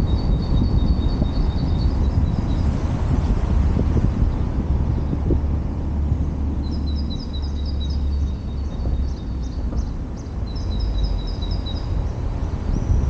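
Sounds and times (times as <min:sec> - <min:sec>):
street traffic: 0:00.0 - 0:13.0
wind on microphone: 0:00.0 - 0:13.0.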